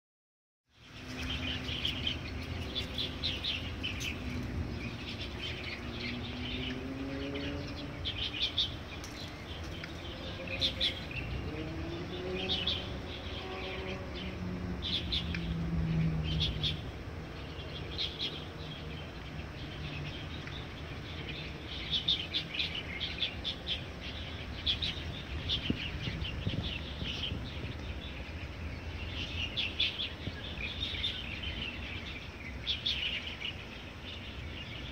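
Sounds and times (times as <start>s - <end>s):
songbirds singing and chirping: 0.7s - 34.9s.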